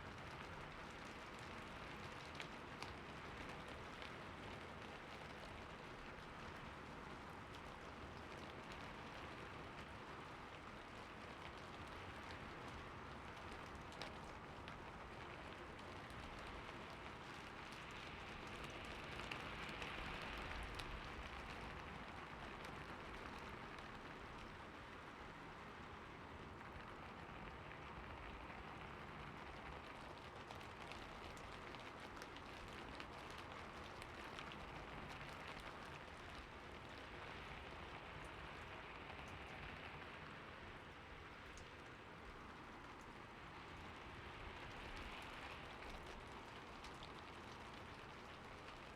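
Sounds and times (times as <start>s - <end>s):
rain falling on a roof: 0.0s - 48.9s.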